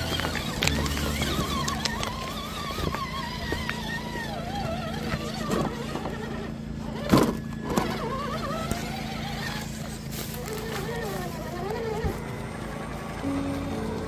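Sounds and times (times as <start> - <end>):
toy truck motor whine: 0.0 - 14.0.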